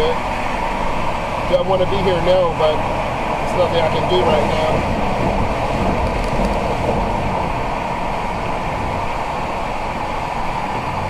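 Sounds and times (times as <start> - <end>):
car engine running: 0.0 - 11.0
tyres on wet pavement: 0.0 - 11.0.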